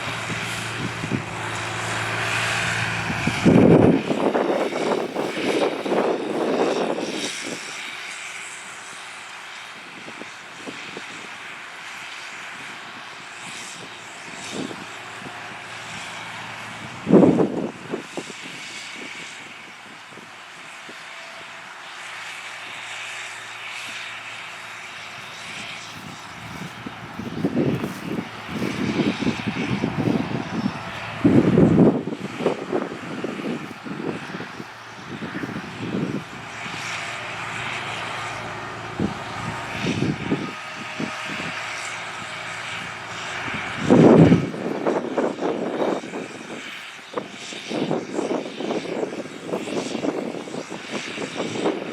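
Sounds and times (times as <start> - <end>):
tractor diesel engine droning: 0.0 - 51.9
wind buffeting microphone: 0.0 - 51.9.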